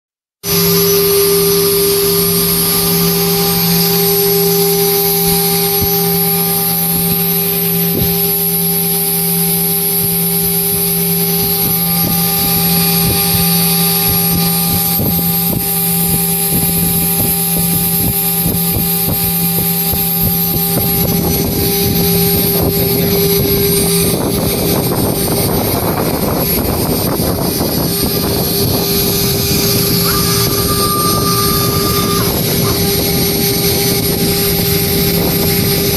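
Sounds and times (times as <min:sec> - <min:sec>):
engraving spindle whine: 0:00.4 - 0:35.9.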